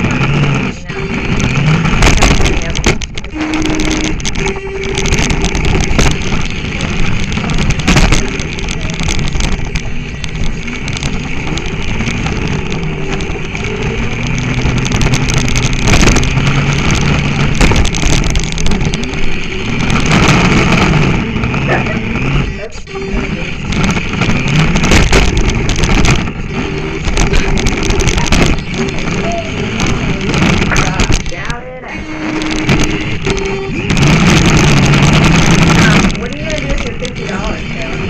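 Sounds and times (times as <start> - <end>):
mechanical running noise: 0.0 - 38.0.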